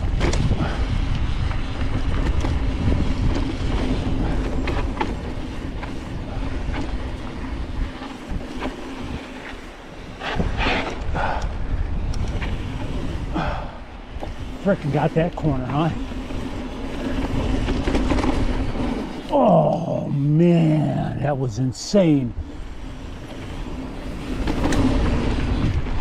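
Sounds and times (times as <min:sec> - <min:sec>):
mountain bike rattling downhill: 0:00.0 - 0:26.0.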